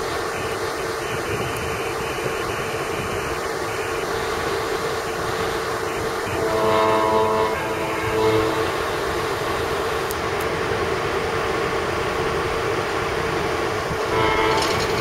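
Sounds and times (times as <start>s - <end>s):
distant diesel freight train rumble: 0.0s - 15.0s.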